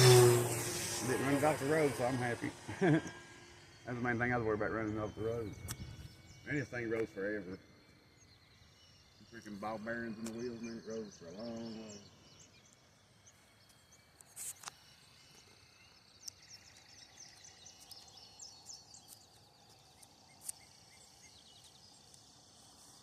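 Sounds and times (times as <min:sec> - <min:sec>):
birds chirping: 0:00.0 - 0:23.0
faint insect drone: 0:00.0 - 0:23.0.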